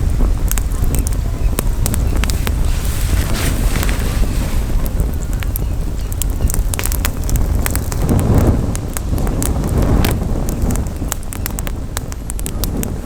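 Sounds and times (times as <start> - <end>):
campfire crackling: 0.0 - 13.0
wind buffeting microphone: 0.0 - 13.0.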